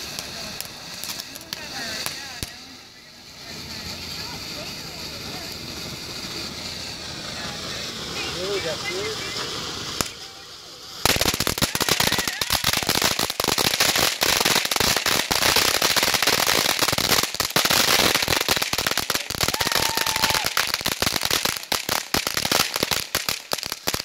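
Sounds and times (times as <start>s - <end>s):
fireworks hissing and crackling: 0.0s - 24.0s.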